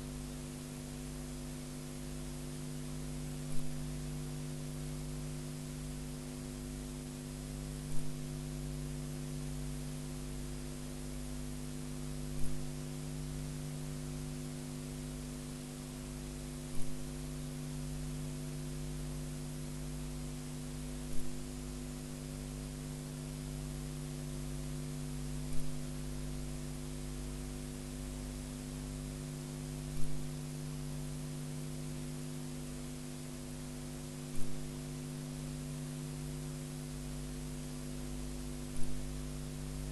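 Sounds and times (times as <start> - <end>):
electrical hum with hiss: 0.0 - 39.9.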